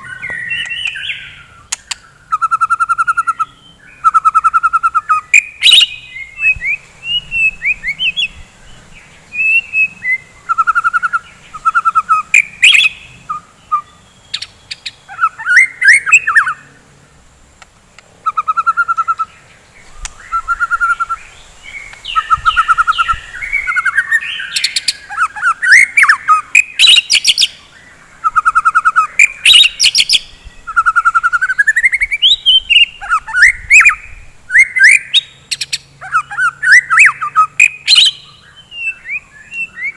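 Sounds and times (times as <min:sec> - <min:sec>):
bird singing trills and whistles: 0:00.0 - 0:16.8, 0:18.2 - 0:39.9.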